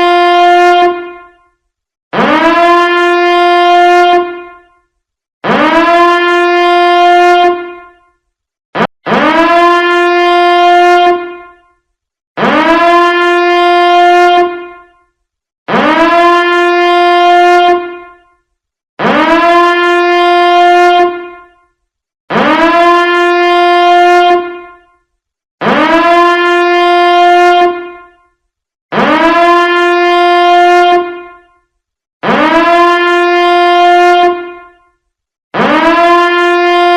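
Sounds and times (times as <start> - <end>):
alarm horn blasts: 0.0 - 35.0, 35.6 - 36.9.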